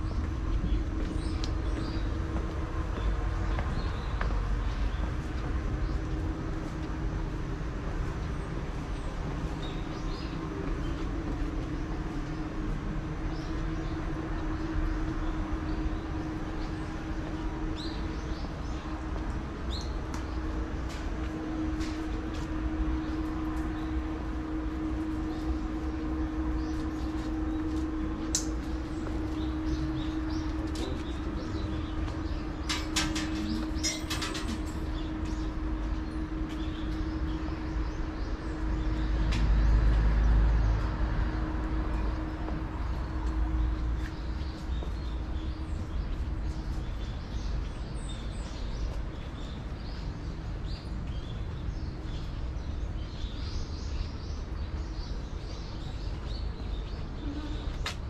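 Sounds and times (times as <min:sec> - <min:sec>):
constant hum: 0:00.0 - 0:58.0
distant traffic rumble: 0:00.0 - 0:58.0.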